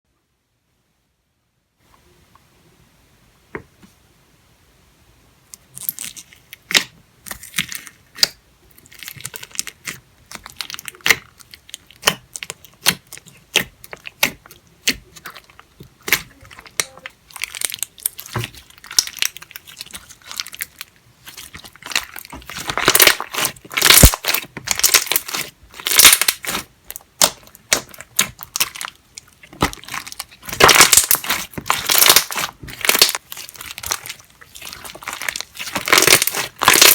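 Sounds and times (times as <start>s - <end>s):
slime crackling and popping: 5.6s - 36.9s.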